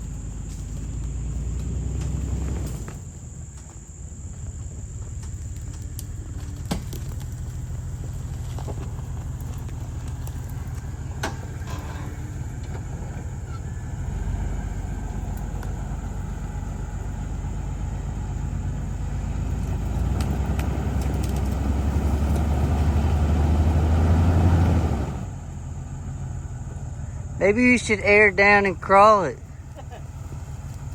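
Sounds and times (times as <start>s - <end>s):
vehicle engine running under load: 0.0s - 30.9s.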